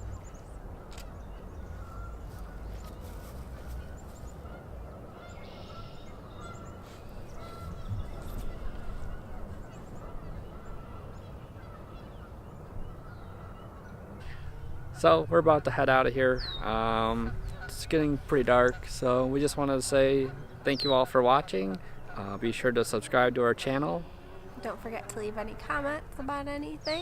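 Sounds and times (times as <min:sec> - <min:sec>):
geese honking: 0:00.0 - 0:27.0
small birds chirping: 0:00.0 - 0:27.0.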